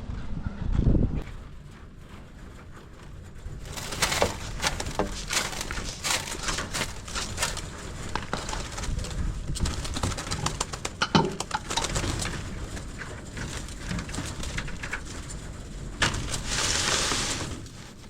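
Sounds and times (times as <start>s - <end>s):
birds pecking at feed: 2.0s - 18.0s
wings flapping: 2.8s - 18.0s.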